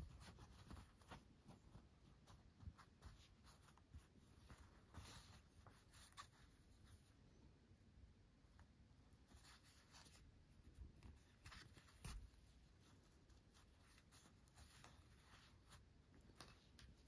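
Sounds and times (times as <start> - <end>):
fabric rustling: 0.0 - 7.2, 8.6 - 17.0.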